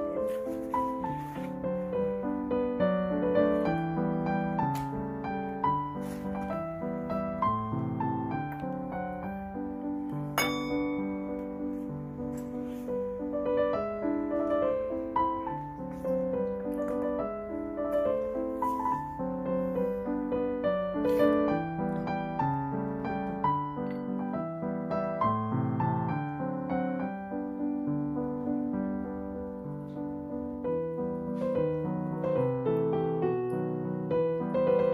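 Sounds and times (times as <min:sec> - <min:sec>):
piano melody: 0:00.0 - 0:34.9.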